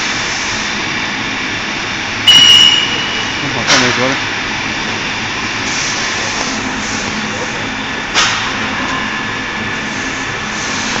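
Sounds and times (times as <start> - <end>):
machine running steadily: 0.0 - 11.0.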